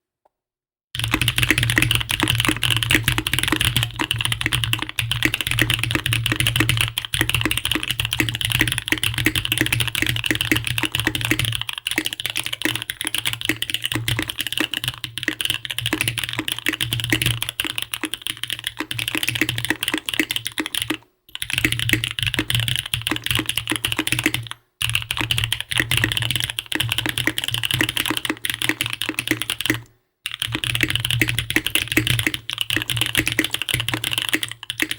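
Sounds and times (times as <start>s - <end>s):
fast mechanical keyboard typing: 1.0s - 34.9s.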